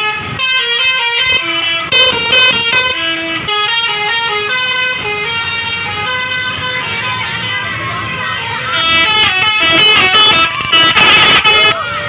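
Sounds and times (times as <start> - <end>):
multi-tone bus air horn tune: 0.0 - 12.0.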